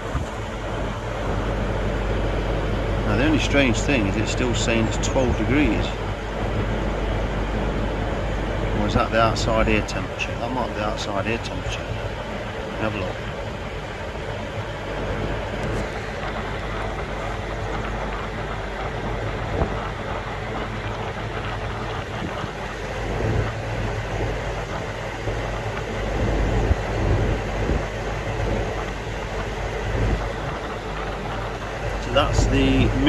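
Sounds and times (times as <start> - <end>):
fan rushing: 0.0 - 33.0
heat pump mechanical hum: 0.0 - 33.0.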